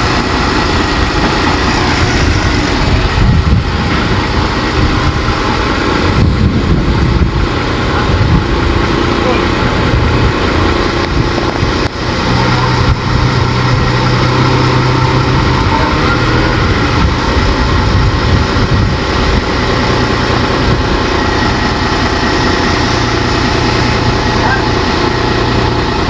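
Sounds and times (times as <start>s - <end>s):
large diesel engine running: 0.0s - 26.0s.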